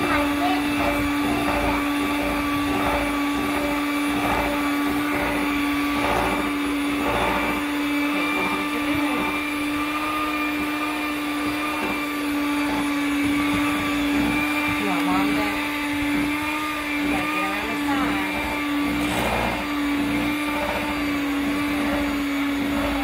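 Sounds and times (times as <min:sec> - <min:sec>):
electric hand mixer running: 0:00.0 - 0:23.0.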